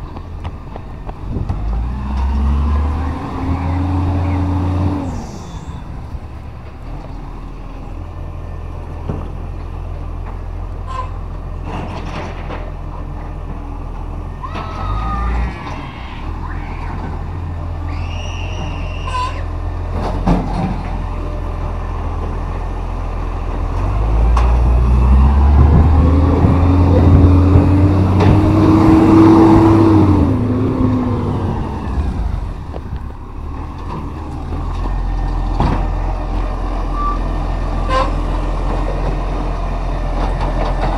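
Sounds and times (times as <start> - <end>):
truck engine running and revving: 0.0 - 14.4, 19.4 - 40.9.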